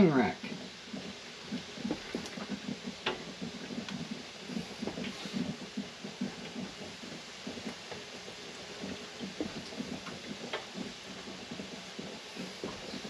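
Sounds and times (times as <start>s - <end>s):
boiling water bubbling: 0.0s - 13.0s.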